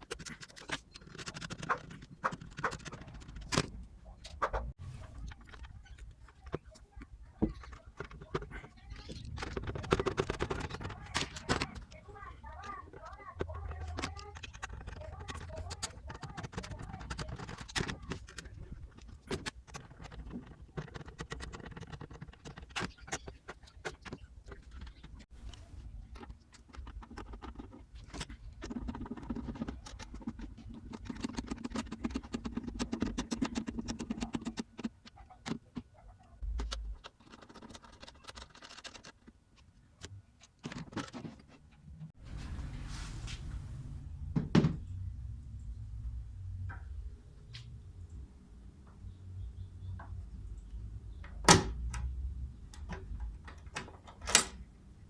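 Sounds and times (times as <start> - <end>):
small clicks and rattles: 0.0 - 41.9, 49.9 - 54.9.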